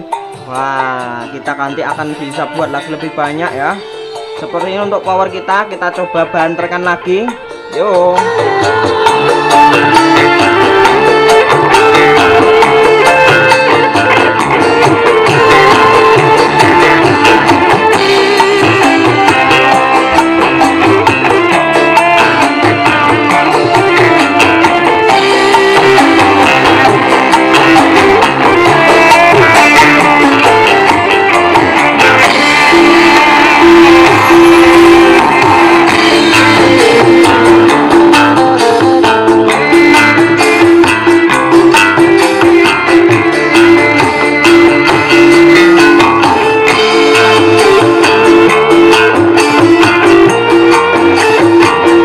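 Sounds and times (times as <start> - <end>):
music with drum beat: 0.0 - 52.0.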